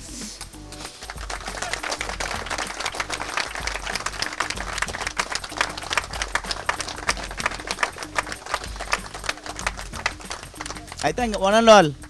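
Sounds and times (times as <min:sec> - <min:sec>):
crowd applauding: 0:00.8 - 0:12.0.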